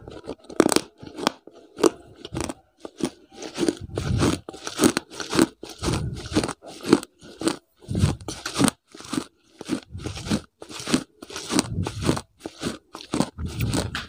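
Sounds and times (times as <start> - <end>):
mouth chewing and crunching sounds: 0.0 - 14.0.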